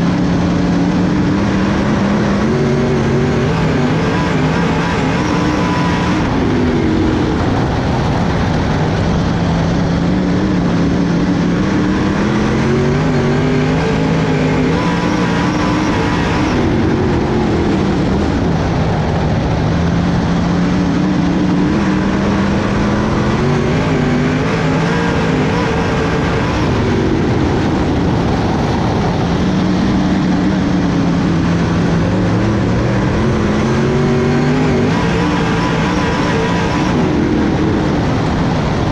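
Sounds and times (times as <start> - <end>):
race car engines racing: 0.0 - 38.9.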